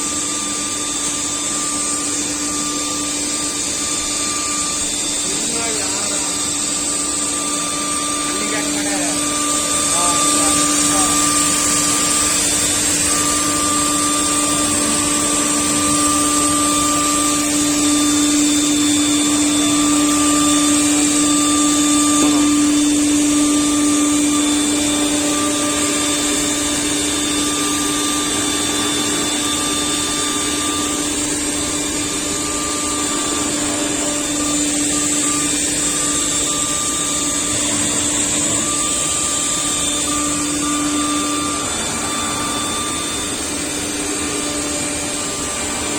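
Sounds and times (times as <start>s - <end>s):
router whine: 0.0s - 45.9s.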